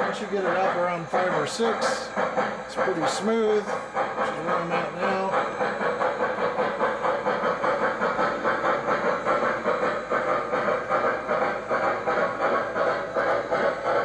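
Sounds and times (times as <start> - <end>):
model steam locomotive chuffing: 0.0 - 14.0.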